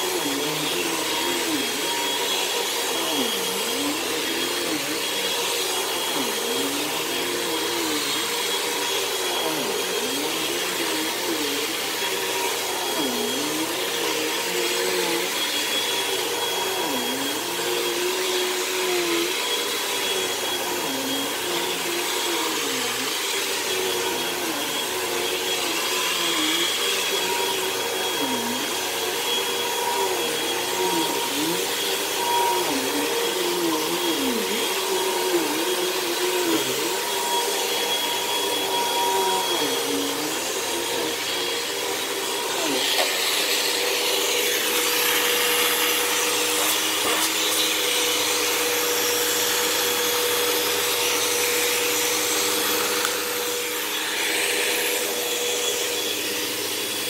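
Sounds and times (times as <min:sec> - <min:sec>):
upright vacuum running on carpet: 0:00.0 - 0:57.0.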